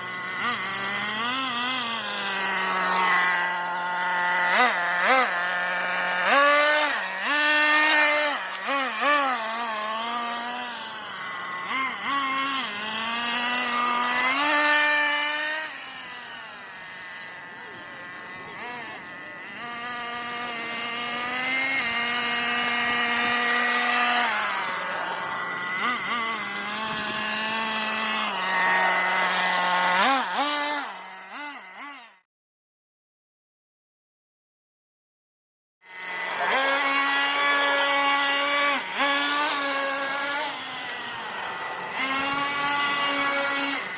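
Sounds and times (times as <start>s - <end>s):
buggy engine revving: 0.0s - 16.5s, 17.6s - 32.0s, 36.1s - 43.9s.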